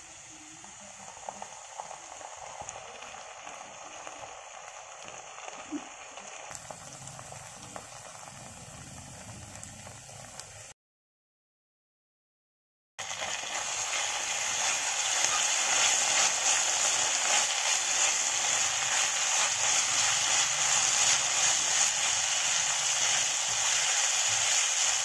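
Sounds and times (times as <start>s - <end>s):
rice sizzling in a pan: 0.0s - 10.8s, 13.0s - 25.0s.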